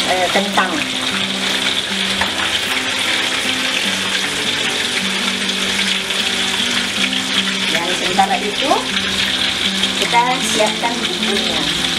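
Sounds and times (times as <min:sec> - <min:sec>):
tofu sizzling in hot oil: 0:00.0 - 0:11.9.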